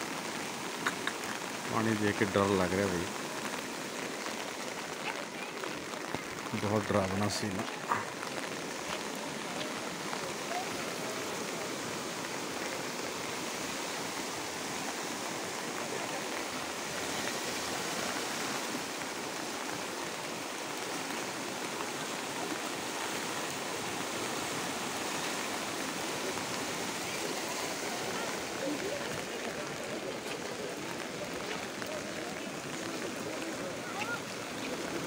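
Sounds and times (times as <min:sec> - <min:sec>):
rain falling: 0:00.0 - 0:35.0
river rushing: 0:00.0 - 0:35.0.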